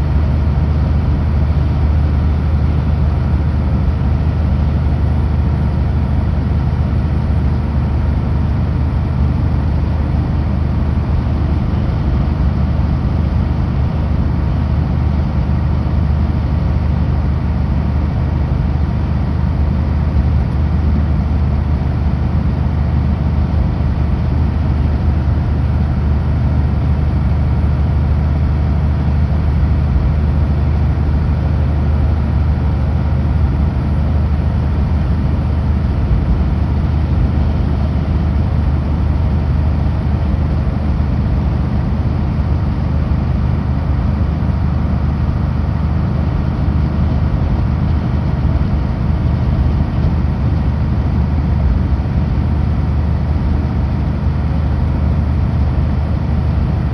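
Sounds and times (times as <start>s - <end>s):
truck diesel engine droning: 0.0s - 56.9s.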